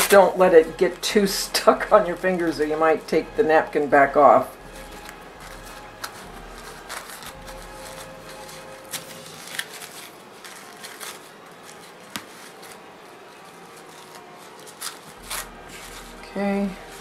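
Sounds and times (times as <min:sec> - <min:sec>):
paper napkin rustling and tearing: 0:00.0 - 0:03.4, 0:04.5 - 0:17.0.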